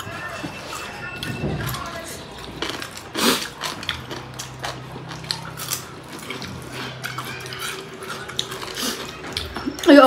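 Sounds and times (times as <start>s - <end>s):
wet chewing and lip smacking: 1.2s - 10.0s.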